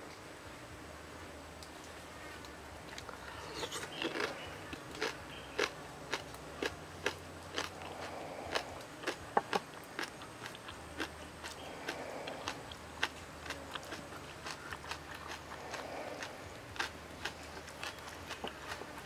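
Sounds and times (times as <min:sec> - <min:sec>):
person chewing: 0:02.9 - 0:19.0.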